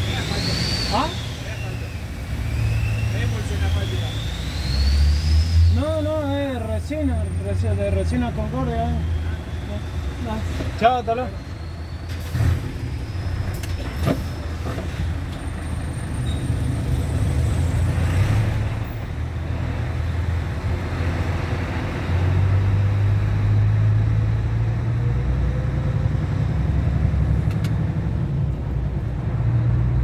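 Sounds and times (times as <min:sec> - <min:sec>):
truck diesel engine rumble: 0:00.0 - 0:30.0.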